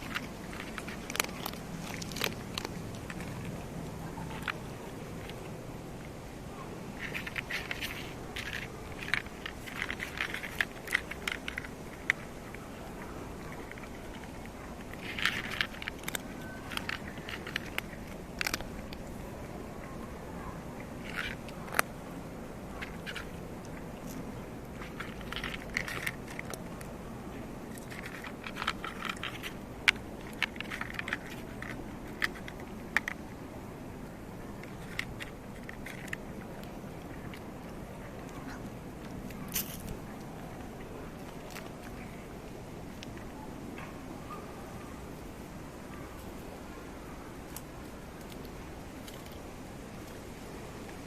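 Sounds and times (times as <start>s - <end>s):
cats crunching dry snacks: 0.0s - 51.0s.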